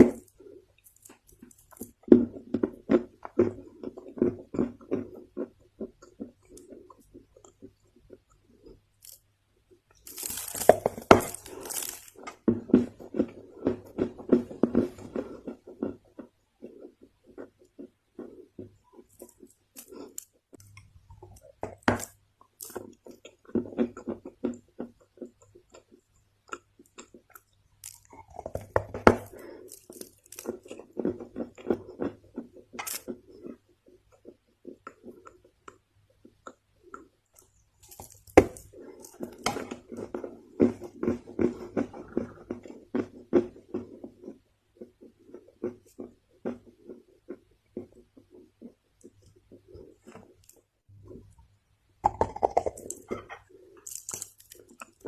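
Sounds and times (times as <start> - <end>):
chewing crunchy clay: 0.0 - 9.3, 9.9 - 51.4, 52.0 - 55.0.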